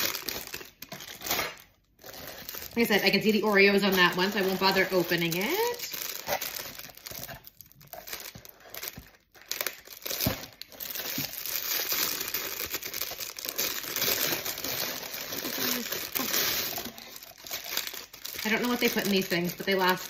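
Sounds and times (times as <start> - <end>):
cellophane bag crinkling: 0.0 - 20.0.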